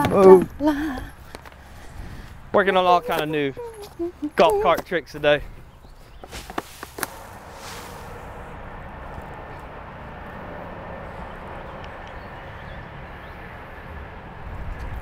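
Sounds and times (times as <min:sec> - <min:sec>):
distant engine hum: 0:00.0 - 0:15.0.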